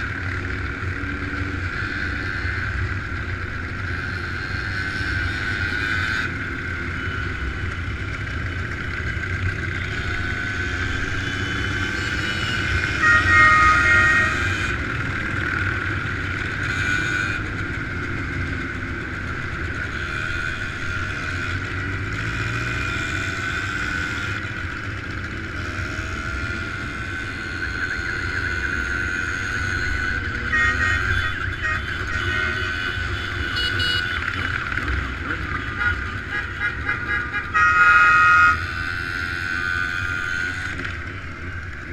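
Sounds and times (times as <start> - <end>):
motorcycle engines running: 0.0 - 41.9.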